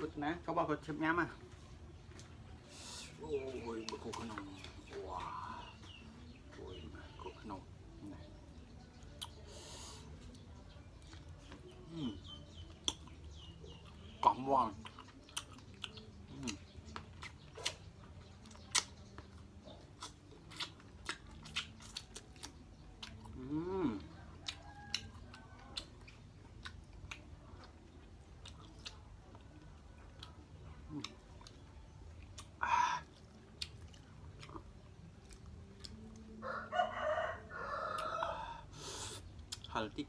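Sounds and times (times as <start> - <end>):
close-up chewing and crunching: 1.4 - 40.0.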